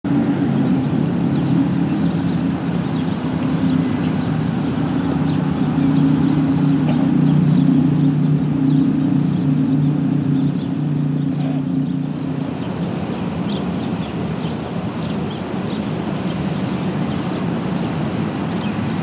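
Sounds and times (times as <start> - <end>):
road traffic rumble: 0.0 - 19.0
birds chirping faintly: 0.1 - 19.0.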